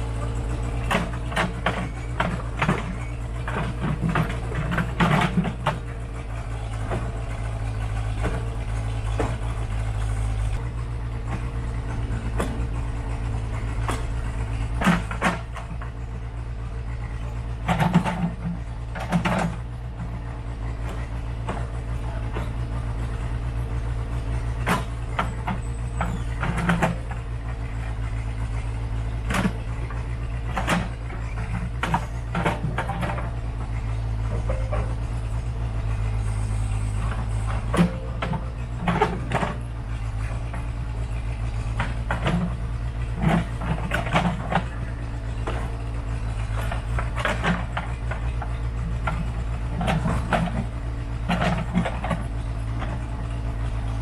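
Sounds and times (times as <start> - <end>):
backhoe engine running: 0.0 - 54.0
rocks and dirt clattering: 0.0 - 54.0.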